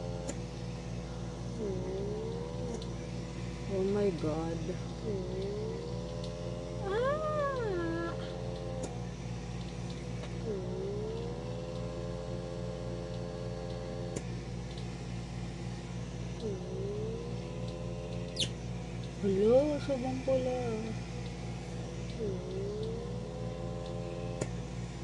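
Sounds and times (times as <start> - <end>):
pore vacuum buzzing hum: 0.0 - 25.0.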